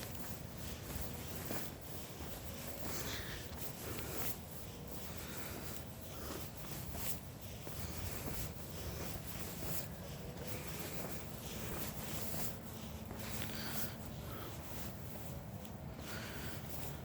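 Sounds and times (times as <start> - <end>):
footsteps crunching dry leaves: 0.0 - 17.0.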